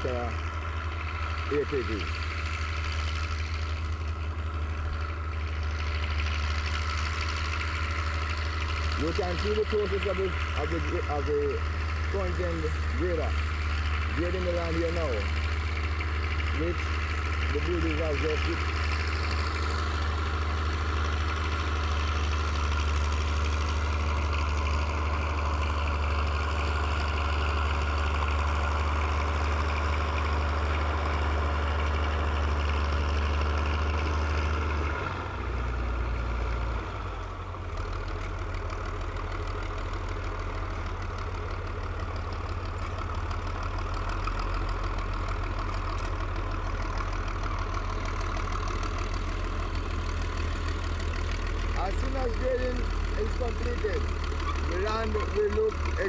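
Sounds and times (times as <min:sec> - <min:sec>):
grader engine running: 0:00.0 - 0:56.0.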